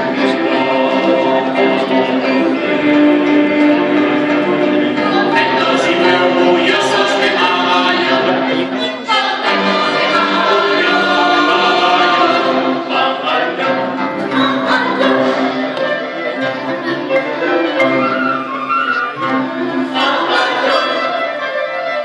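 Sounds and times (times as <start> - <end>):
choir with instrumental ensemble: 0.0 - 22.0.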